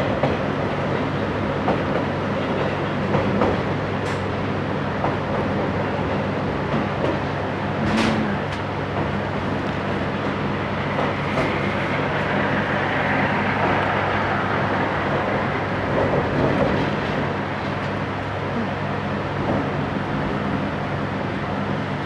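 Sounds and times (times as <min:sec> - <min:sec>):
electric train hum and rumble: 0:00.0 - 0:22.0.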